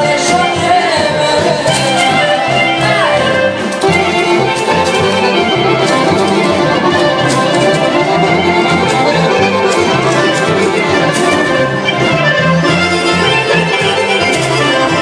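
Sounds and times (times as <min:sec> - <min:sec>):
folk band dance music: 0:00.0 - 0:15.0.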